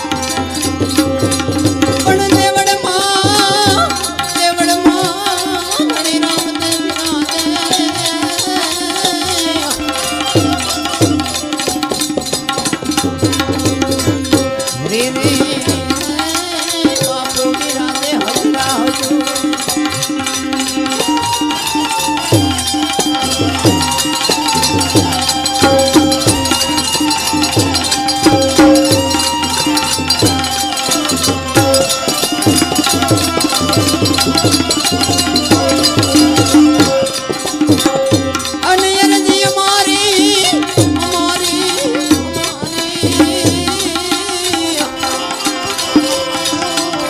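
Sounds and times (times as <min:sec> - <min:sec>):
devotional folk melody: 0:00.0 - 0:47.0
steady drum beat: 0:00.0 - 0:47.0.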